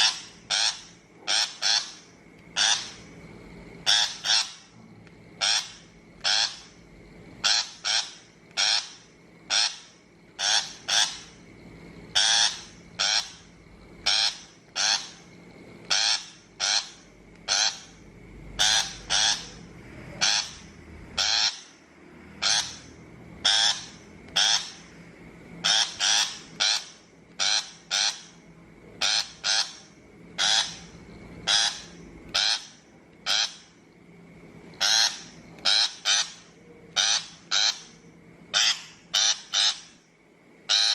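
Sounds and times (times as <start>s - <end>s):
bird giving harsh raspy calls: 0.0s - 3.1s, 3.8s - 4.7s, 5.4s - 6.8s, 7.4s - 11.4s, 12.1s - 15.3s, 15.9s - 18.0s, 18.6s - 19.6s, 20.2s - 21.8s, 22.4s - 24.9s, 25.6s - 28.4s, 29.0s - 33.7s, 34.8s - 40.0s, 40.7s - 40.9s.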